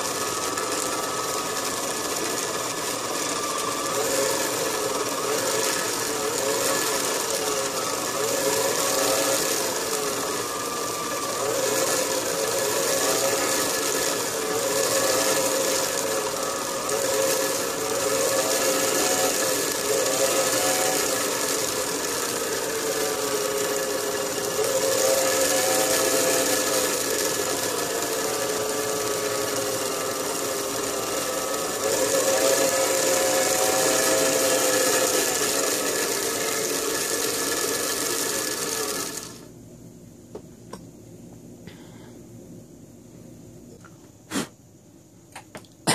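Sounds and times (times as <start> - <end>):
motor-driven cutter whirring: 0.0 - 39.5.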